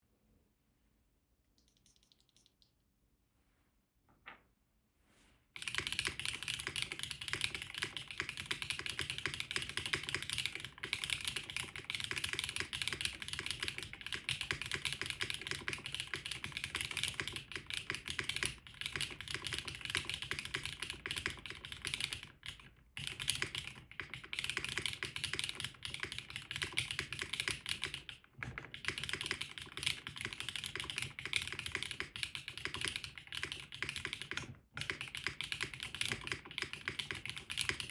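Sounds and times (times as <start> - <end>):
fast mechanical keyboard typing: 5.6 - 37.9.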